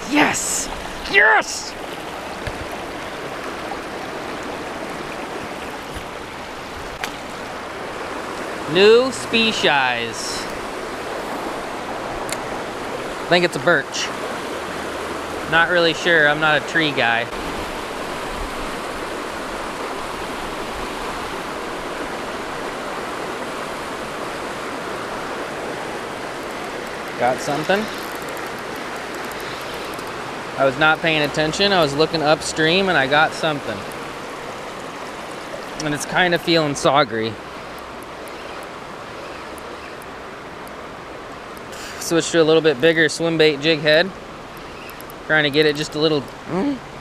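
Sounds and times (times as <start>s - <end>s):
river water tumbling over rocks: 0.0s - 47.0s.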